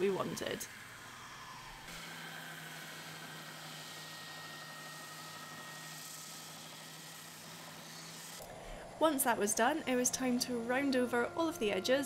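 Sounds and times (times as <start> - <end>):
belt sander motor humming: 0.0 - 12.0.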